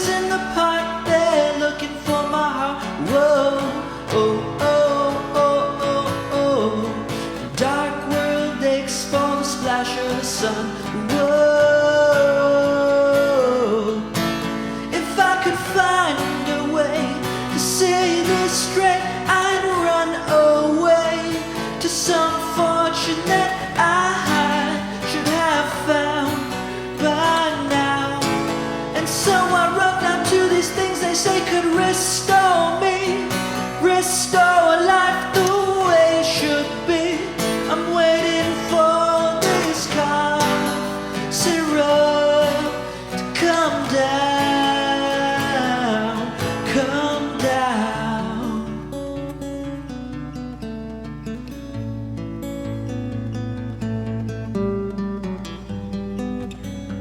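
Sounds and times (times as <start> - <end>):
person singing: 0.0 - 49.0
guitar accompaniment: 0.0 - 57.0.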